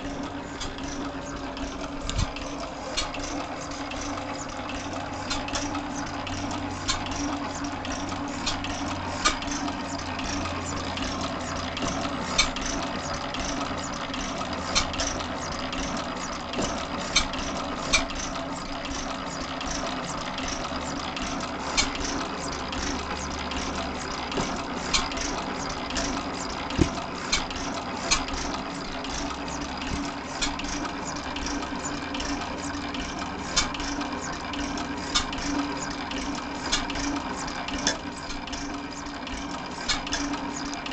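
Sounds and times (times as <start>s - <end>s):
sharp engine clicks: 0.0s - 40.9s
stationary engine running: 0.0s - 40.9s.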